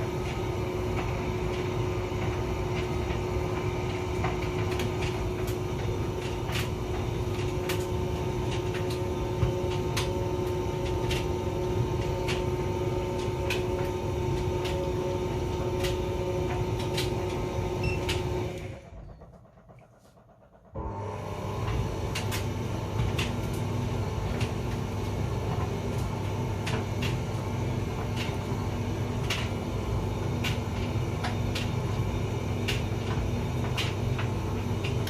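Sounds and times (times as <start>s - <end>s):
tumble dryer hum: 0.0s - 35.0s.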